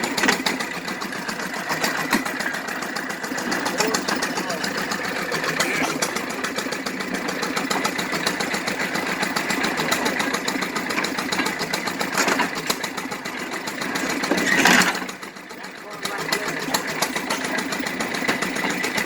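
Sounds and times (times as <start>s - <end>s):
hay baler mechanical clatter: 0.0s - 19.0s.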